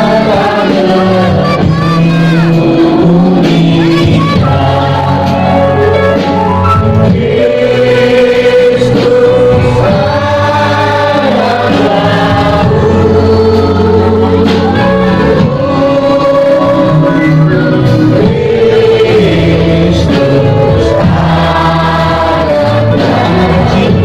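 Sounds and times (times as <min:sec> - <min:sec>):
choir singing a hymn: 0:00.0 - 0:24.0
low accompaniment: 0:00.0 - 0:24.0.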